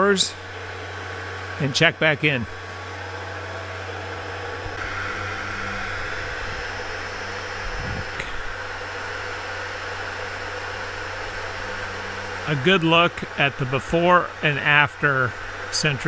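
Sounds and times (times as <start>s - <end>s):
centrifuge motor humming and whirring: 0.0s - 16.0s.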